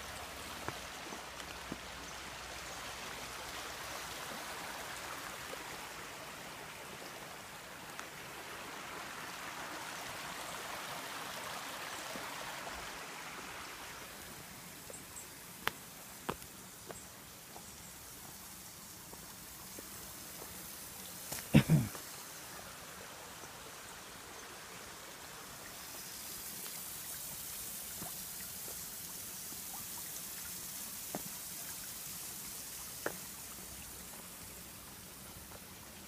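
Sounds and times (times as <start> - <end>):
stream water running over rocks: 0.0 - 36.0.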